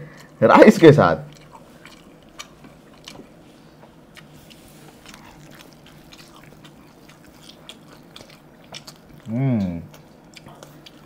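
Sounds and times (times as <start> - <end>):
faint chewing: 1.2 - 11.0.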